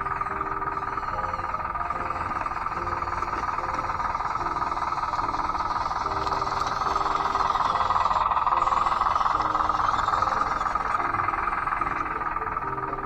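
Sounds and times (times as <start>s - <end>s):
quiet background music: 0.0s - 13.0s
toy bulldozer motor whine: 0.0s - 13.0s.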